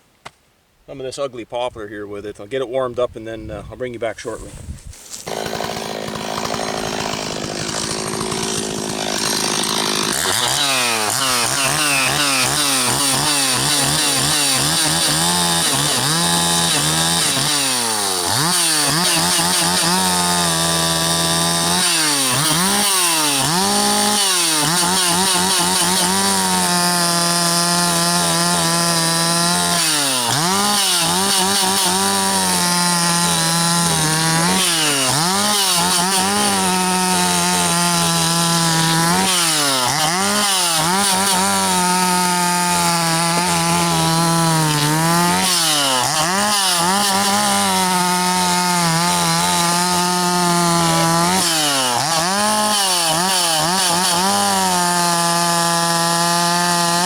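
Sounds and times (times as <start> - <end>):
chainsaw idling and revving: 5.1 - 57.0.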